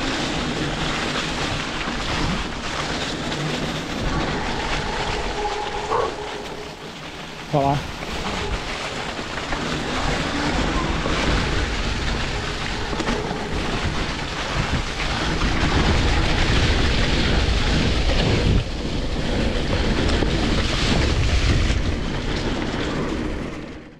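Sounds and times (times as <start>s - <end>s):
bike rumble: 0.0s - 23.9s
wind rushing over microphone: 0.0s - 23.9s.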